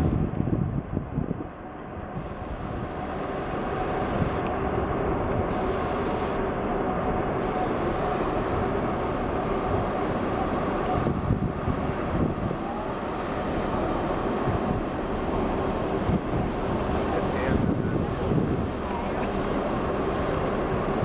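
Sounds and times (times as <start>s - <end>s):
faint steady hum: 0.0s - 21.0s
ship engines rumbling: 0.0s - 21.0s.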